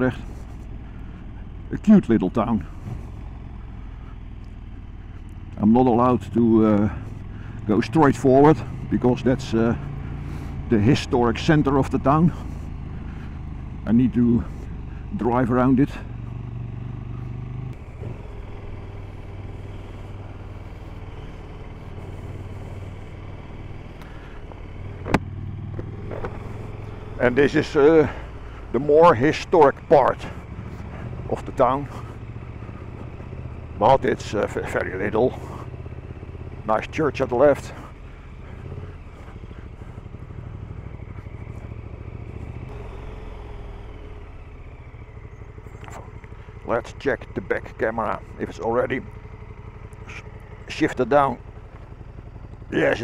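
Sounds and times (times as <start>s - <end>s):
motorcycle engine at low revs: 0.0s - 53.0s.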